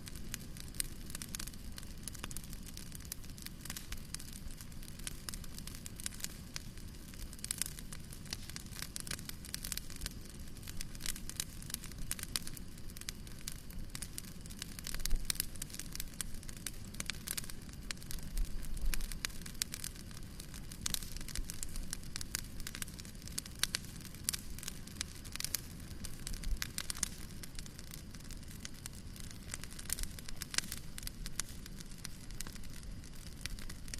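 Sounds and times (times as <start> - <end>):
fire crackling and popping: 0.0 - 33.9
fire rumbling: 0.0 - 33.9.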